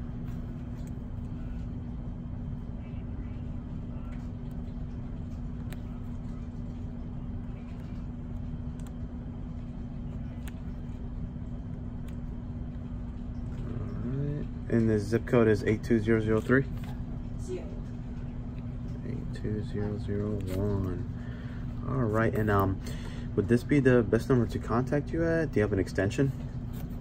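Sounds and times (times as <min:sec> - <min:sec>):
office background hum: 0:00.0 - 0:27.0.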